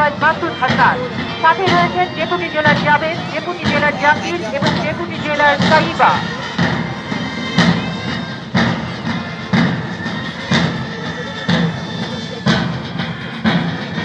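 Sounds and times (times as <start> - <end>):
heavy bass drum beat: 0.0 - 14.0
marching band wind instruments: 0.0 - 14.0.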